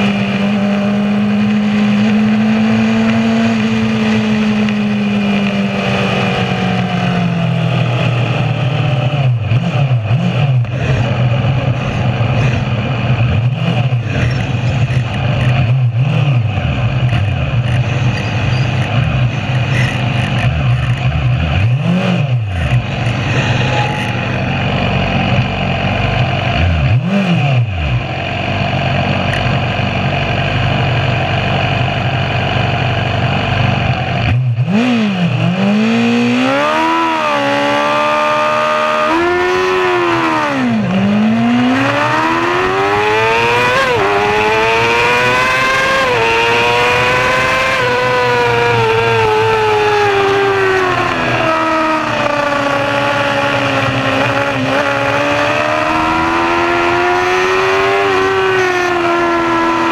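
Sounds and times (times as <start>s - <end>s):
motorcycle engine idling and revving: 0.0s - 59.9s
race bikes running: 0.0s - 59.9s.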